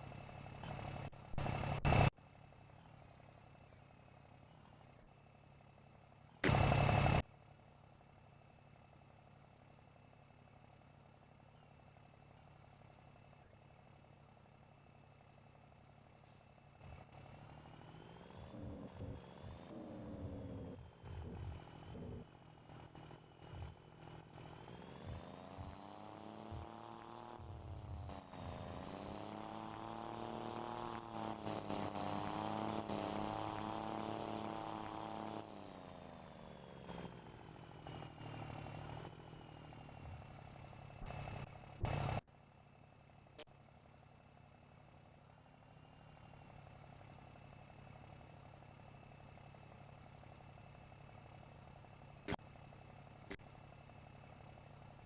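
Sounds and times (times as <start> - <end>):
truck engine revving and idling: 0.0 - 55.0.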